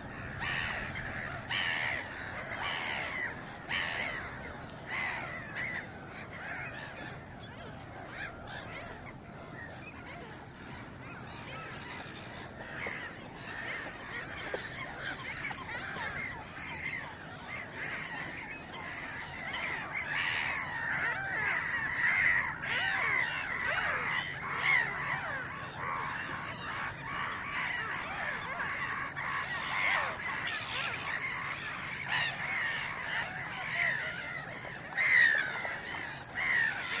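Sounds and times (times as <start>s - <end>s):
chorus of birds calling: 0.0s - 37.0s.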